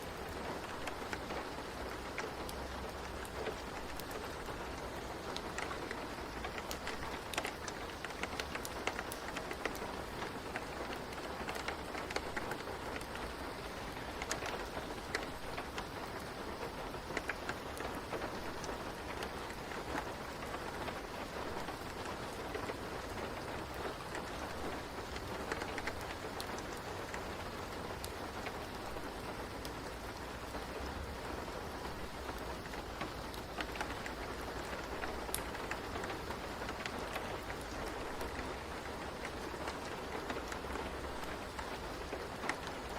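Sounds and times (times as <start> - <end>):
rain: 0.0 - 42.9.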